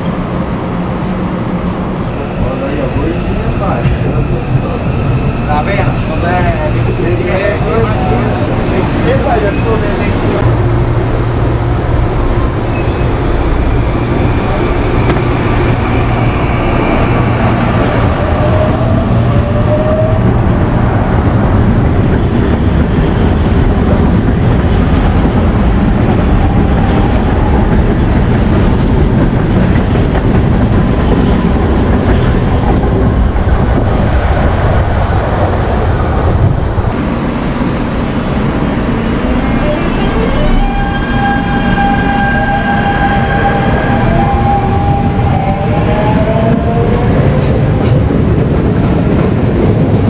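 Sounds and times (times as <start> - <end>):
train wheel and rail noise: 0.0 - 50.0.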